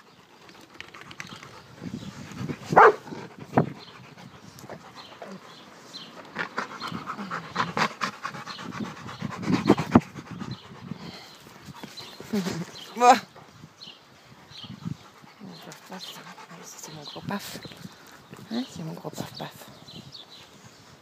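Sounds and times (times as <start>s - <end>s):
dogs panting: 0.0s - 19.6s.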